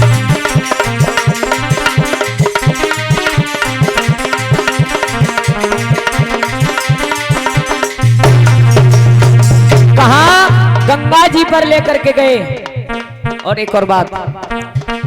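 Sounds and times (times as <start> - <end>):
hand drum playing quick rhythm: 0.0 - 15.0
steady melodic line: 0.0 - 15.0.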